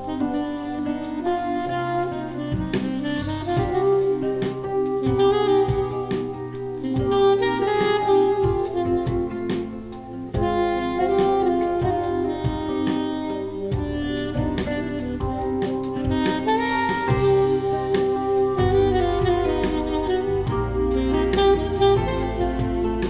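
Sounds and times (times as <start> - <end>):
saxophone melody: 0.0 - 23.0
steady drum beat: 2.3 - 23.0.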